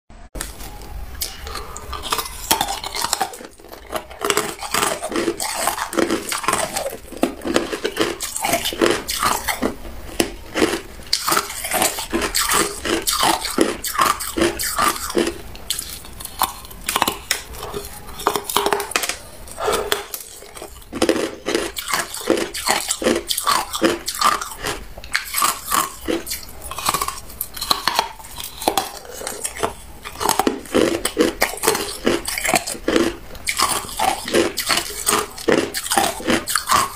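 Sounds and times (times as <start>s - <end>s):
ice being chewed: 0.4s - 36.9s.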